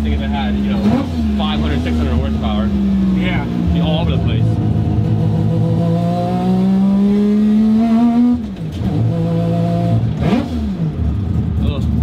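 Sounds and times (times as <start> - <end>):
rotary car engine revving: 0.0 - 12.0.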